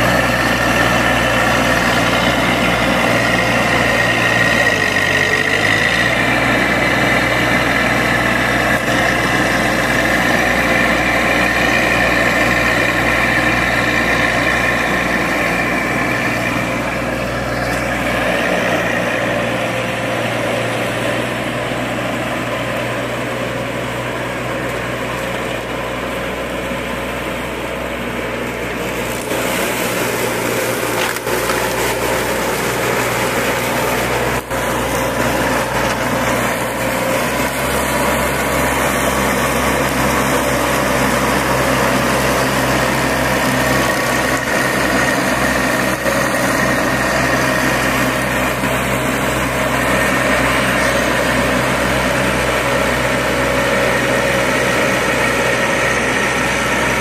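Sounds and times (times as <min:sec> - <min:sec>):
ride-on mower engine running: 0:00.0 - 0:57.0.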